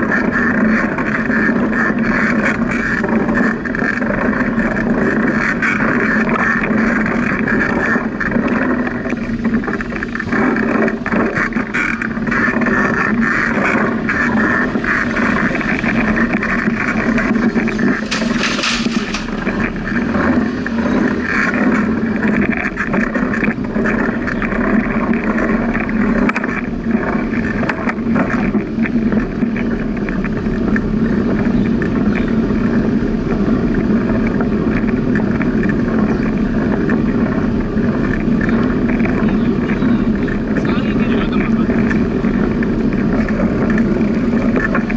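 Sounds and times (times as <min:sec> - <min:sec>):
bicycle road noise: 0:00.0 - 0:44.9
wind noise: 0:00.0 - 0:44.9.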